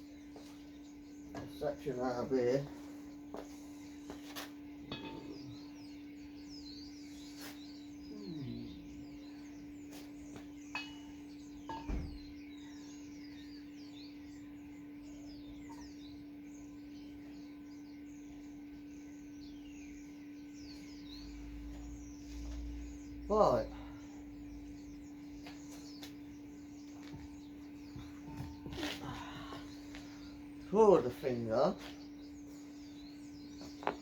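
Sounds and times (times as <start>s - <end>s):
small birds chirping: 0.0s - 34.0s
steady hum: 0.0s - 34.0s.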